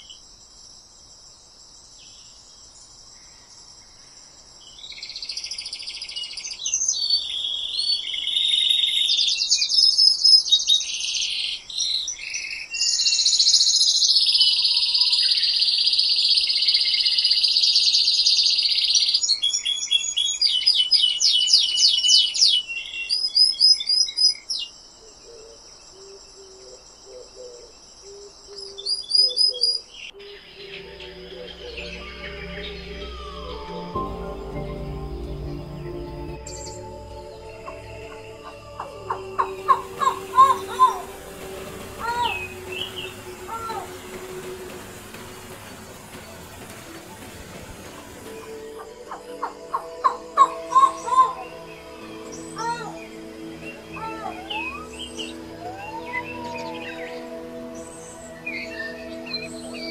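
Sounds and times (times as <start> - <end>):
birds chirping and trilling: 1.7 - 59.9.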